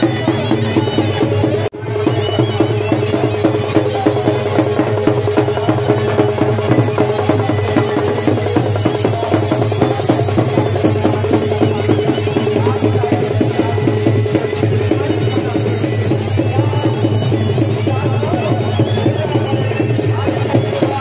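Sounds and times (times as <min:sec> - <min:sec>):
fast drum beats: 0:00.0 - 0:21.0.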